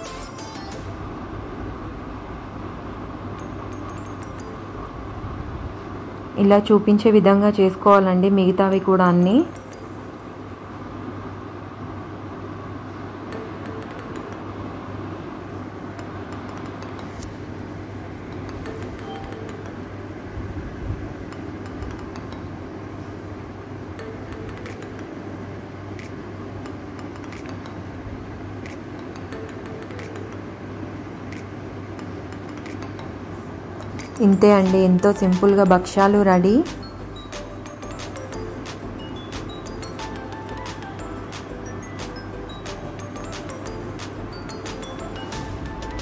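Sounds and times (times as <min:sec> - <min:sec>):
low kitchen hum: 0:00.0 - 0:46.0.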